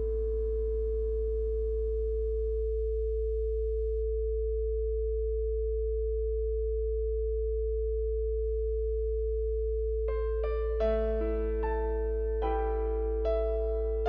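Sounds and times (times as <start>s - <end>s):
low pure tone hum: 0.0s - 14.0s.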